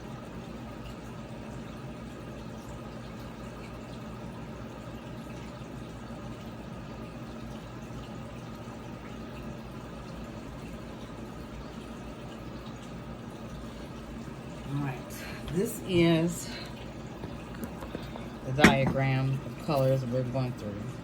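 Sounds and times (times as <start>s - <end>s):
low filter hum: 0.0s - 21.0s
water trickling in aquarium filter: 0.0s - 21.0s.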